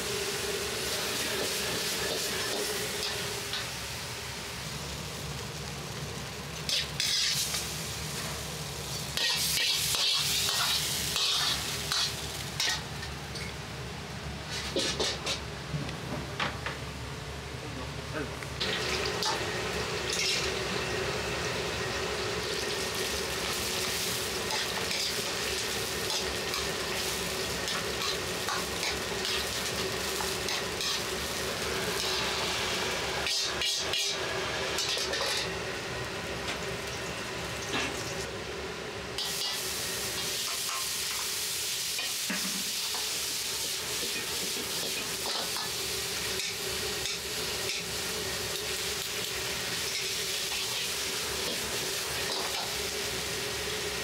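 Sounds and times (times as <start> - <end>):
vegetables sizzling in a wok: 0.0 - 15.7, 18.5 - 54.0.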